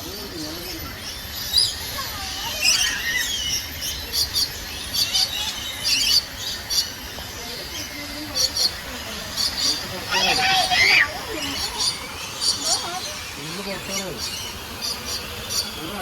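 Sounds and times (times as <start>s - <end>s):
birds chirping: 0.0s - 16.0s
bird gliding whistles: 0.8s - 7.0s, 7.8s - 15.8s.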